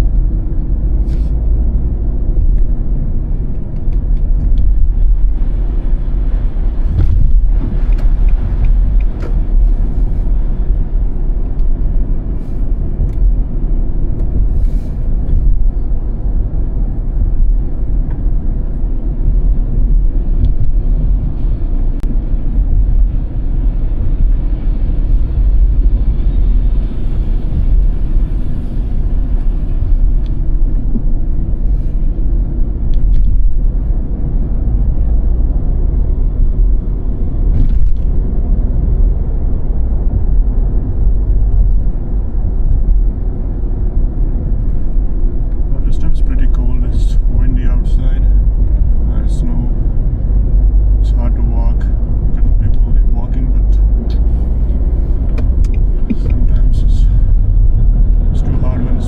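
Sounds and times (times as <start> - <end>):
car tyres and engine rumbling: 0.0 - 59.0.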